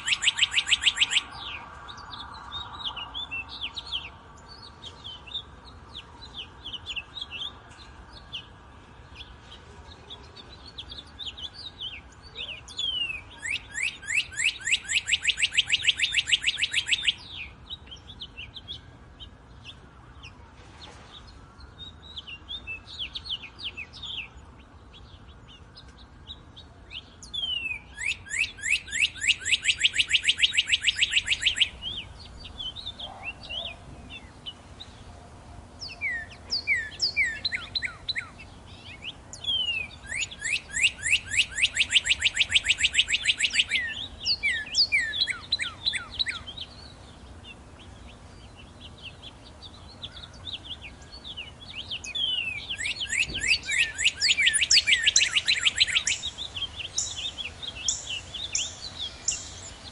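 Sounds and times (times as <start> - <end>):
bird whistled song: 0.0 - 35.0, 35.8 - 59.9.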